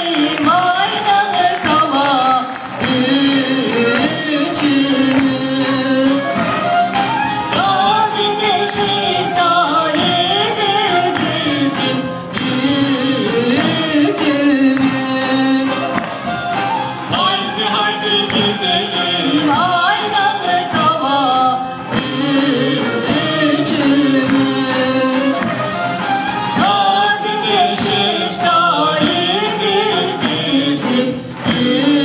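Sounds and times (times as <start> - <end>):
man and woman singing: 0.0 - 32.0.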